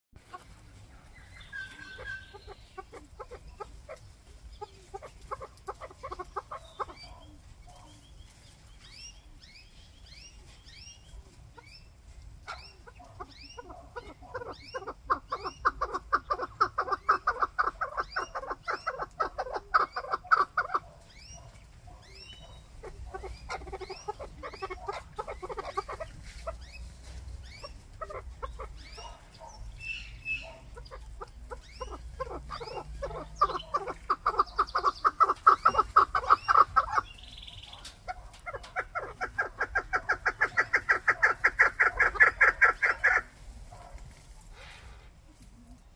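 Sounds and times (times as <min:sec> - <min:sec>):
partridges clucking calls: 0:00.2 - 0:45.1.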